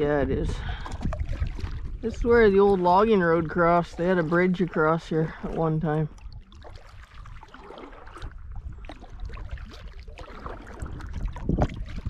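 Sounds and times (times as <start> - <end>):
paddle splashes and drips: 0.0 - 12.0.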